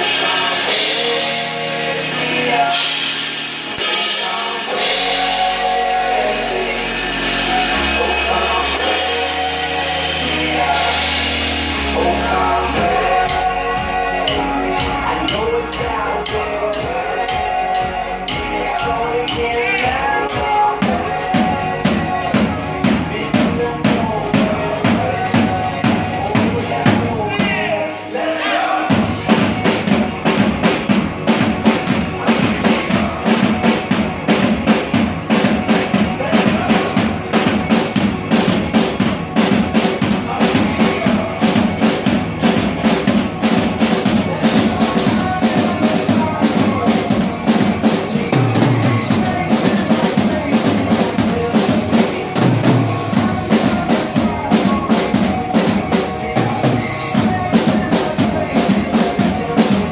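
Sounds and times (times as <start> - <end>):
drum kit playing fast beat: 0.0 - 27.8, 28.8 - 59.9
recorded pop song: 0.0 - 59.9.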